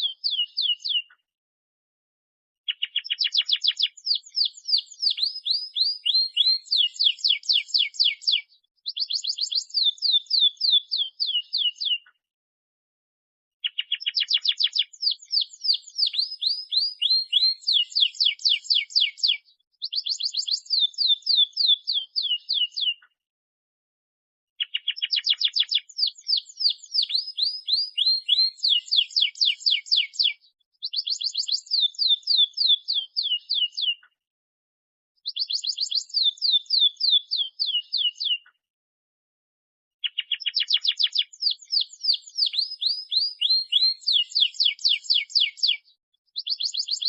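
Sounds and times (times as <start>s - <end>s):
canary singing trills: 0.0s - 1.2s, 2.7s - 12.1s, 13.6s - 23.0s, 24.6s - 34.1s, 35.2s - 38.5s, 40.0s - 47.0s.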